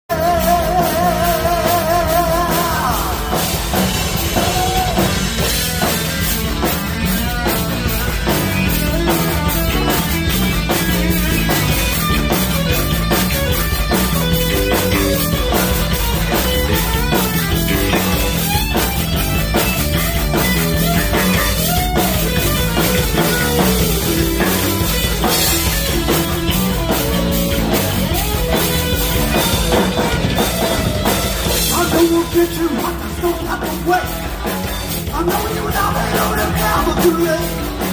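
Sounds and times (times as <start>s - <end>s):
heavy metal band playing: 0.1s - 37.9s
lead guitar with wide vibrato: 0.1s - 37.9s.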